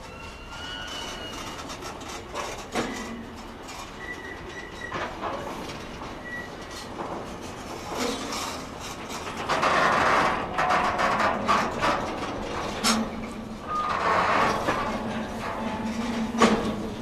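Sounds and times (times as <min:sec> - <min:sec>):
train wheels clicking: 0:00.0 - 0:17.0
wagons clanking and rattling: 0:00.0 - 0:17.0.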